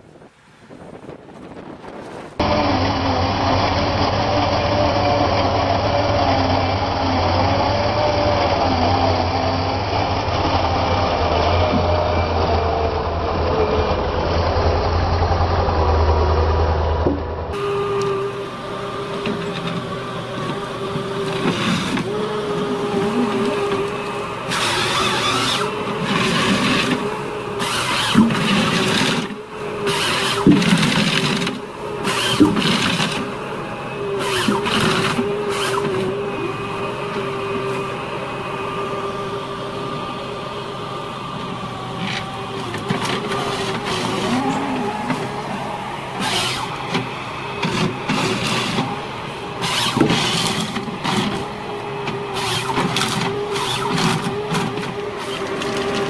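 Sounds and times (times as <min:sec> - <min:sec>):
harvester engine and hydraulics: 0:00.0 - 0:56.0.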